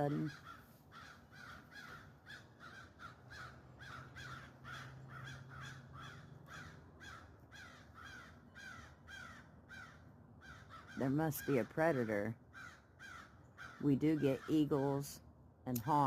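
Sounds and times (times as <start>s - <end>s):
distant crows cawing: 0.0s - 15.2s.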